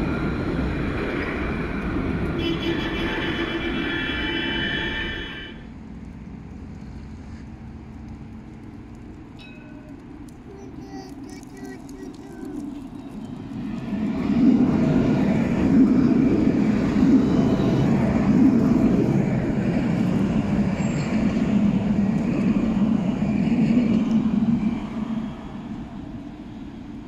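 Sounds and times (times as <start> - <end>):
tram rumbling on rails: 0.0 - 27.0.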